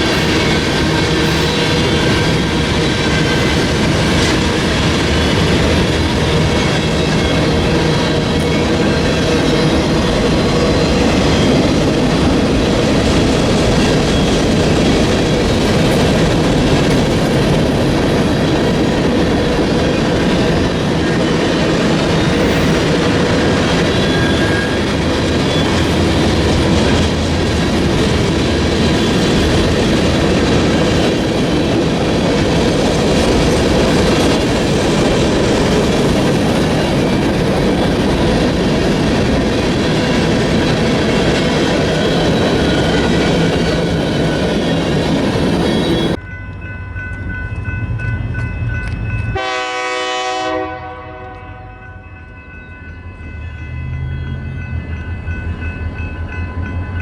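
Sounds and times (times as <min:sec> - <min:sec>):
steel wheels on rail: 0:00.0 - 0:57.0.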